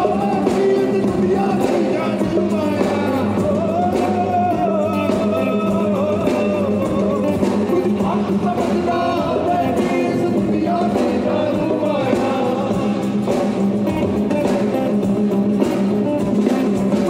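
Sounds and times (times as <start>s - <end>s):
person singing: 0.0s - 14.8s
drum kit beat: 0.0s - 17.0s
guitar: 0.0s - 17.0s.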